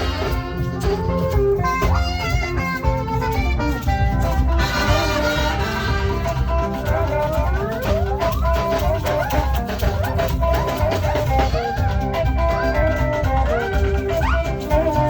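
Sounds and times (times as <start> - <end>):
backing track with bass: 0.0 - 15.0
saxophone melody: 0.0 - 15.0.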